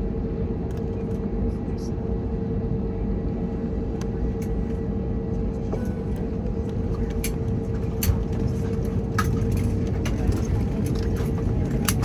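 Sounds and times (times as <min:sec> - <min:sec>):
airplane cabin rumble: 0:00.0 - 0:12.0
constant hum: 0:00.0 - 0:12.0.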